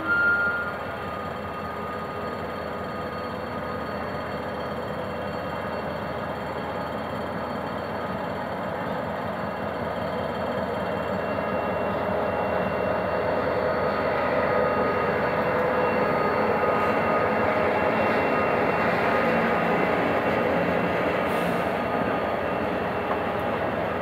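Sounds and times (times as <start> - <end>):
diesel locomotive engine under load: 0.0 - 24.0
train coaches rumbling on track: 0.0 - 24.0.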